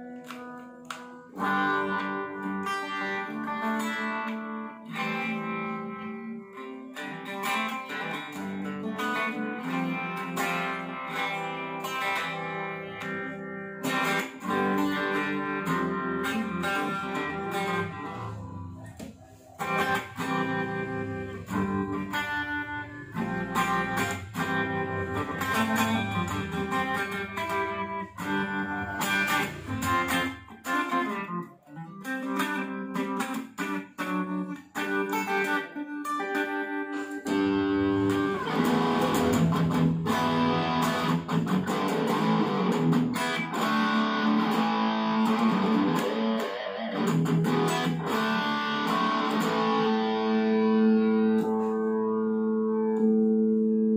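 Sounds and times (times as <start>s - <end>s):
electric guitar through amp: 0.0s - 53.9s.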